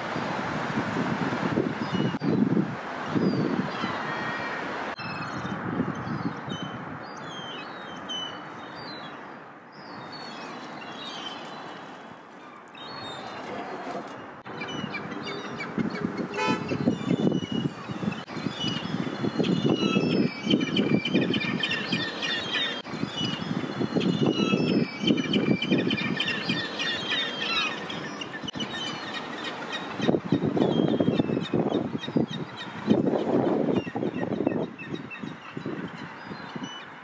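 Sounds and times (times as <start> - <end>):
gulls calling: 3.1 - 5.5, 6.5 - 36.9.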